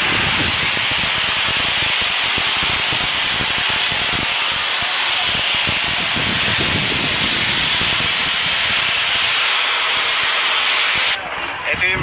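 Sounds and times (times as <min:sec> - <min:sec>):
pressure washer spray hissing: 0:00.0 - 0:11.2.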